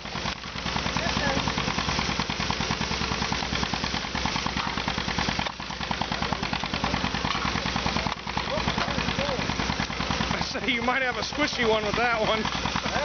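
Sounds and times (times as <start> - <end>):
miniature steam engine beating: 0.0 - 13.0.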